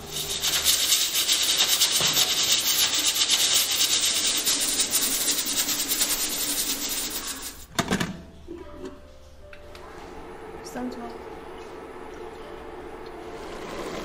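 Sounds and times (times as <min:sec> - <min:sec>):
pressure cooker venting steam: 0:00.0 - 0:07.7, 0:10.3 - 0:14.0.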